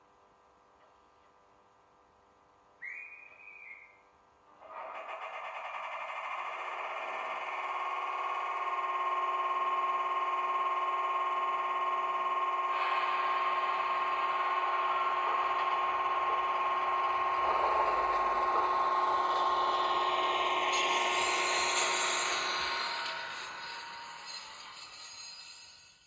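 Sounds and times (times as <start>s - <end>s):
model train motor whine: 4.6s - 26.0s.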